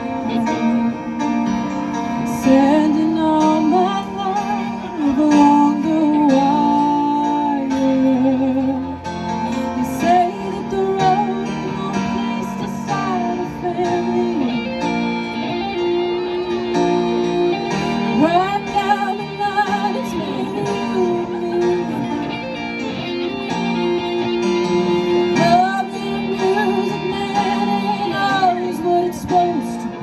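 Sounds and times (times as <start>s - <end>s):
electric guitars: 0.0s - 30.0s
keyboard: 0.0s - 30.0s
woman singing: 2.2s - 14.8s, 15.8s - 22.5s, 24.9s - 30.0s.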